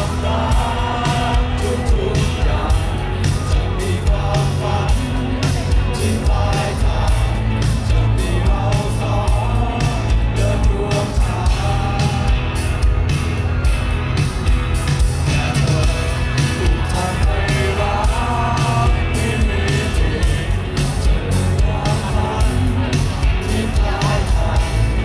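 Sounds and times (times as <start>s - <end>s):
man singing: 0.0s - 12.8s, 15.2s - 25.0s
crowd voices: 0.0s - 25.0s
steady drum beat: 0.0s - 25.0s.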